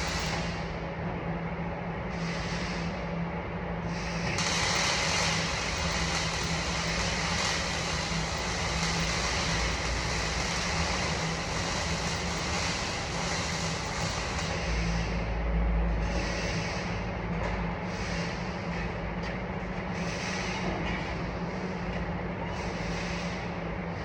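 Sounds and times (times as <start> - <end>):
constant low hum: 0.0 - 24.0
machine noise: 0.0 - 24.0.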